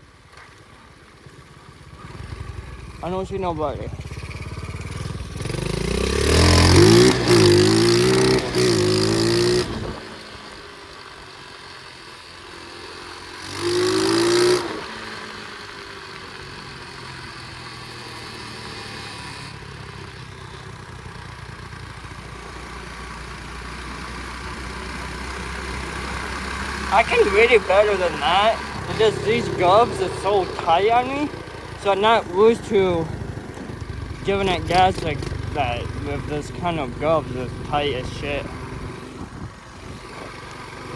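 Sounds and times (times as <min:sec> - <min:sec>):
motorbike engine revving: 0:01.2 - 0:40.9.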